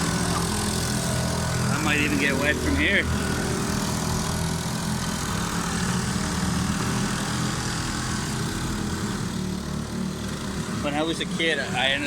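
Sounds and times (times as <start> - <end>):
bumper boat engines running: 0.0 - 12.0.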